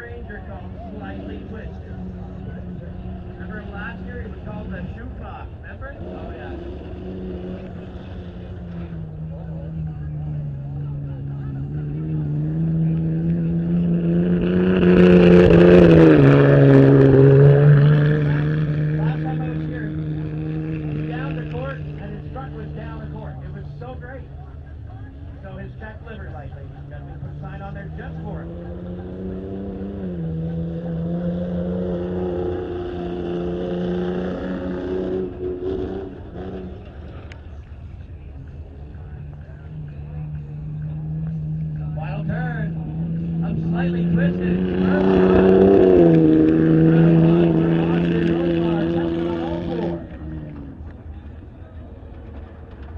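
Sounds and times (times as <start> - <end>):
truck engine running hard: 0.0 - 52.9.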